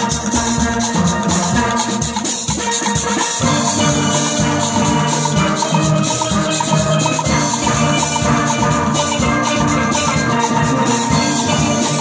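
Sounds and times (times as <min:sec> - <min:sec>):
steady drum beat: 0:00.0 - 0:12.0
steel band playing: 0:00.0 - 0:12.0.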